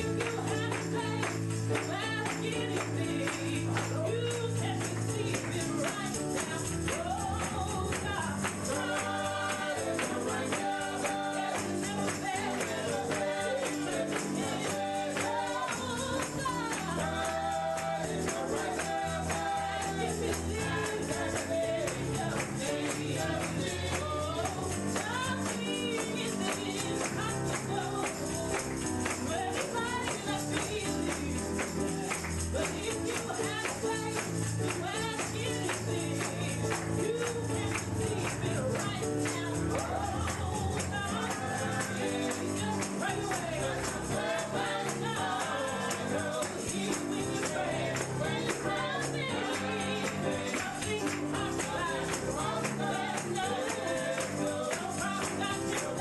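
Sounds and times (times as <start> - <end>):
gospel singing voices: 0.0 - 56.0
shaken tambourine: 0.0 - 56.0.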